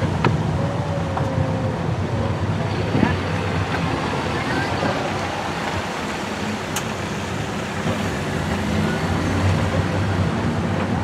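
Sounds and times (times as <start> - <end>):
road and wind noise: 0.0 - 11.0
tram engine drone: 0.0 - 11.0.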